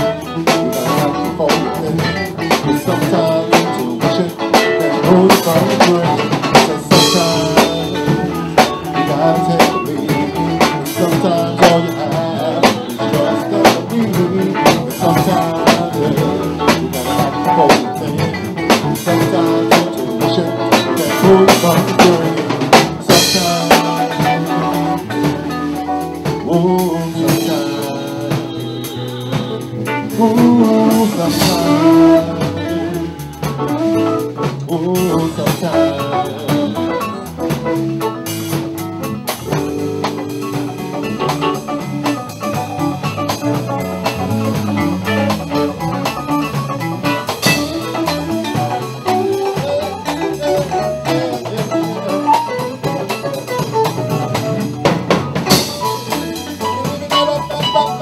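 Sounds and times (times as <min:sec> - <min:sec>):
blues band playing: 0:00.0 - 0:58.0.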